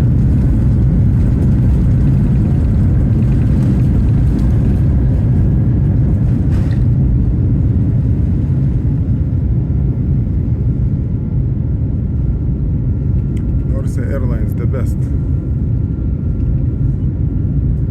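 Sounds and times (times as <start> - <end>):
jet engines rumbling: 0.0 - 17.9.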